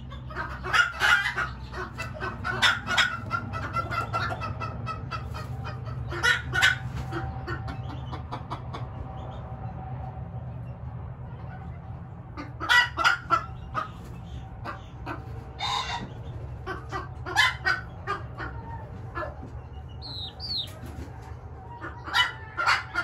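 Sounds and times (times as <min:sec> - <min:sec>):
bird clucking and chirping: 0:00.0 - 0:23.0.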